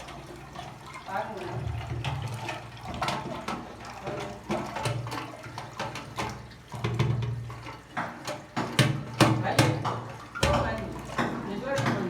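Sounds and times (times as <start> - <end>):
water running in cistern: 0.0 - 12.0.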